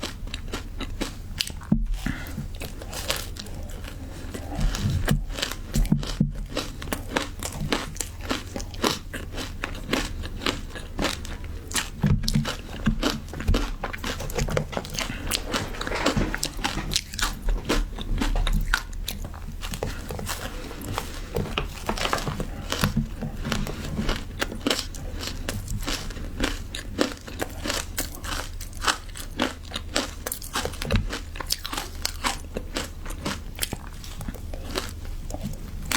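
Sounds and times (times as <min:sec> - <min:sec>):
crunching and chewing ice: 0:00.0 - 0:35.9.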